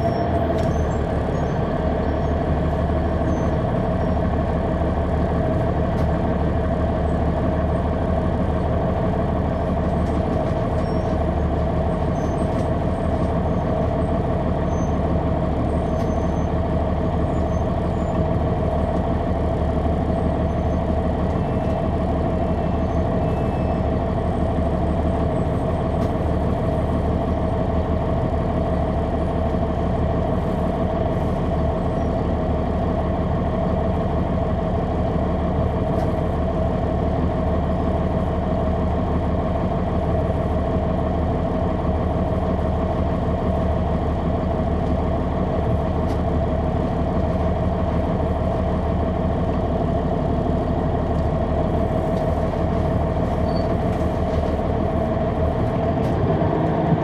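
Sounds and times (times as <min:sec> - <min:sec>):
bus diesel engine droning: 0:00.0 - 0:57.0.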